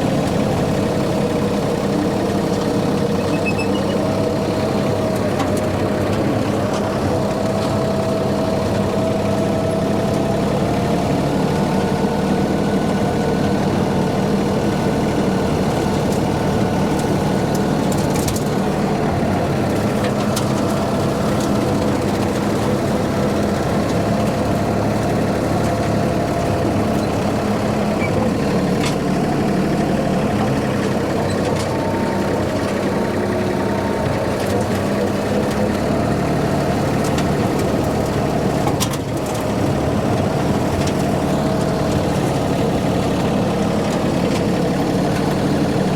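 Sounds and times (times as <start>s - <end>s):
rotary mower cutting weeds: 0.0s - 45.9s
tractor engine running: 0.0s - 45.9s.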